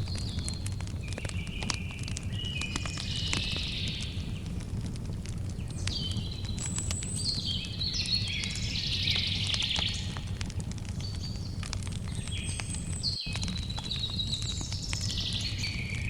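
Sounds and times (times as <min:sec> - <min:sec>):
birds singing: 0:00.0 - 0:04.7, 0:05.4 - 0:16.0
campfire crackling and popping: 0:00.0 - 0:16.0.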